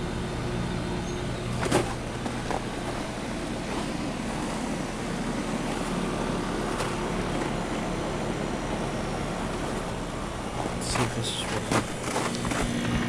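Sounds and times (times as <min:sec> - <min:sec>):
heat pump steady hiss: 0:00.0 - 0:13.0.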